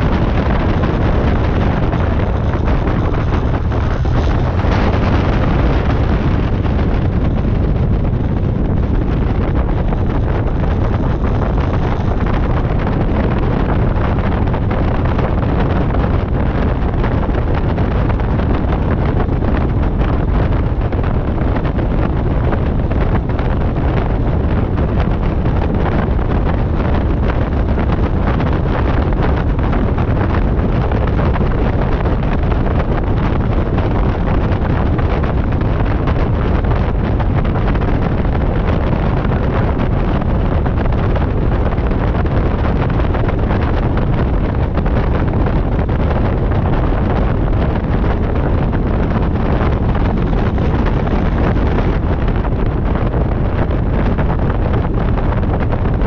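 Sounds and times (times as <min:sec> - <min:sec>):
aircraft engine running: 0:00.0 - 0:56.0
propeller wash and wind buffeting: 0:00.0 - 0:56.0.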